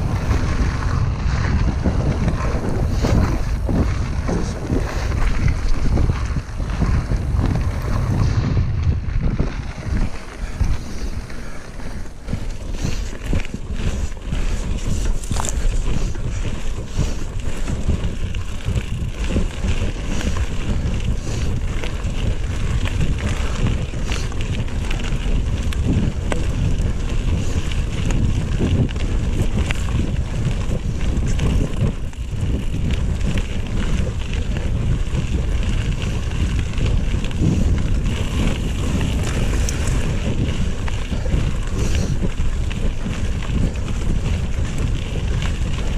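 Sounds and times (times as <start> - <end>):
bike rattling: 0.0 - 45.9
tyres crunching over gravel: 0.0 - 45.9
wind rumble on microphone: 0.0 - 45.9.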